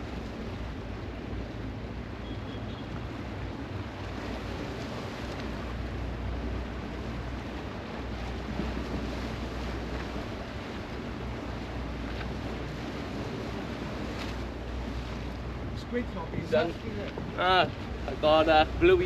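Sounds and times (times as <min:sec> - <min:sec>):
sea washing against shore: 0:00.0 - 0:19.0.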